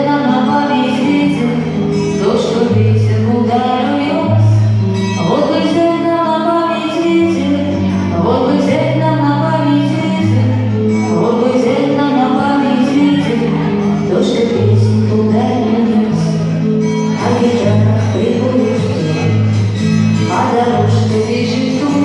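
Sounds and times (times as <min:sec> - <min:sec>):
song with sung vocals: 0:00.0 - 0:22.0.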